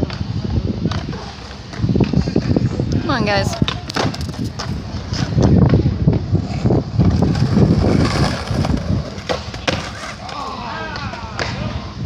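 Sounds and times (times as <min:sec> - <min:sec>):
skateboard wheels rumbling on concrete: 0:00.0 - 0:12.0
skateboards clacking on ground: 0:00.0 - 0:12.0
wind buffeting microphone: 0:00.0 - 0:12.0.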